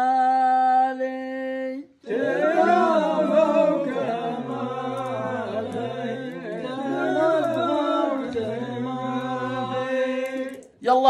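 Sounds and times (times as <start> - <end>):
man chanting poetry: 0.0 - 11.0.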